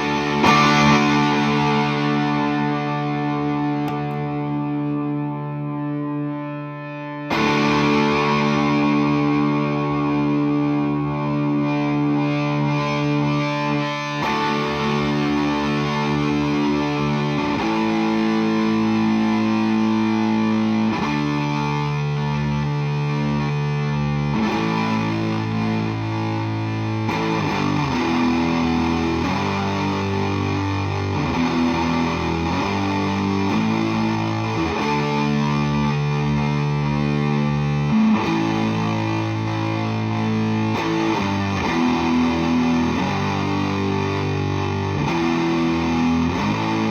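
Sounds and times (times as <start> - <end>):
distorted electric guitar chords: 0.0 - 46.9.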